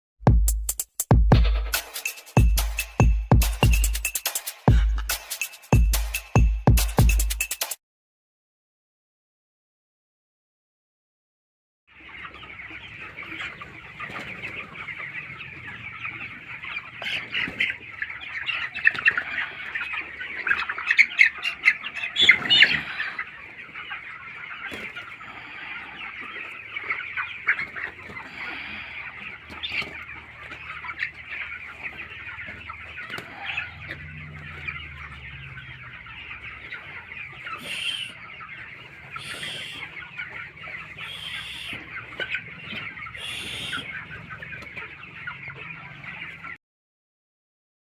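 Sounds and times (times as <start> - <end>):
chickens clucking and cheeping: 1.3 - 7.8, 11.9 - 46.6.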